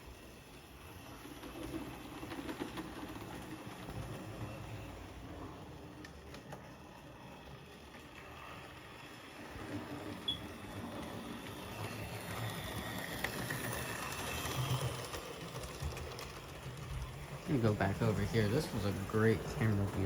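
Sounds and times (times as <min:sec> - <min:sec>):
model train motor whirring: 0:00.0 - 0:20.0.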